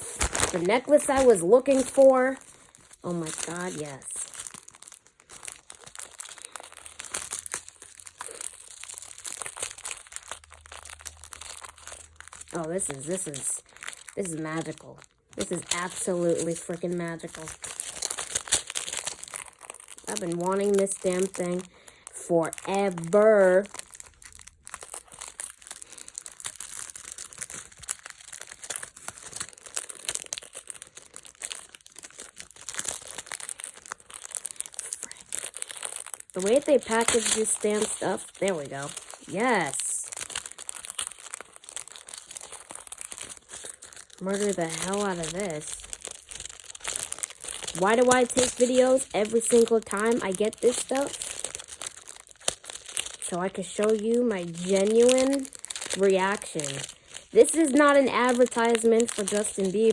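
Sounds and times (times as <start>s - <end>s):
packaging crinkling: 0.0s - 59.9s.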